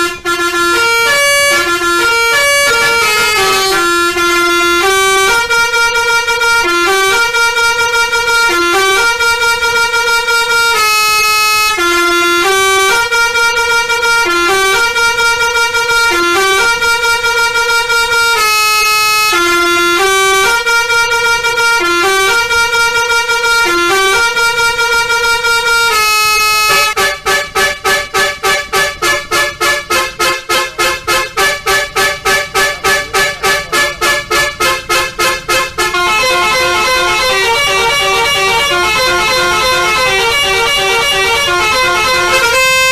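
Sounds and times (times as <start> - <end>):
multi-tone air horn melody: 0.0 - 42.9.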